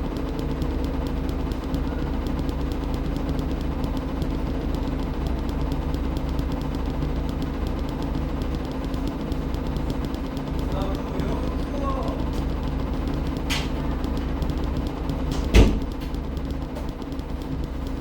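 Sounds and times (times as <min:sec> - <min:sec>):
fast even ticking: 0:00.0 - 0:18.0
steady machine hum: 0:00.0 - 0:18.0.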